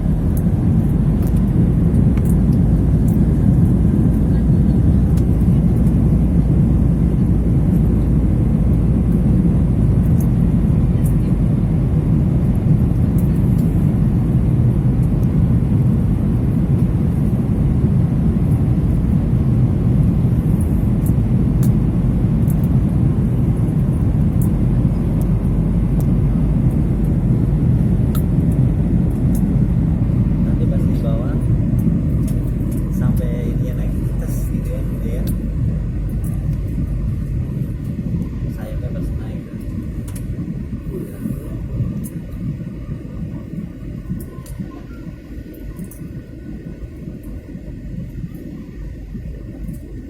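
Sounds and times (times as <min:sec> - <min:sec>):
airliner cabin engine rumble: 0:00.0 - 0:50.0.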